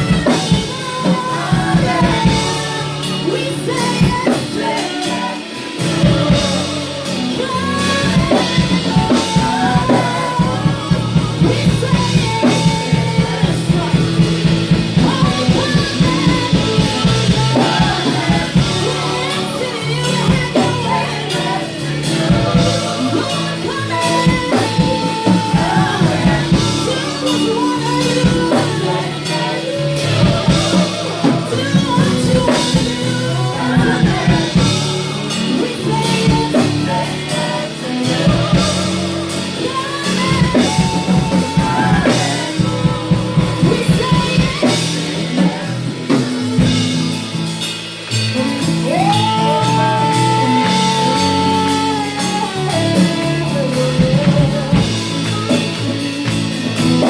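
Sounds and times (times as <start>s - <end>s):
drum kit fast beat: 0.0s - 57.0s
gospel singing over a band: 0.0s - 57.0s.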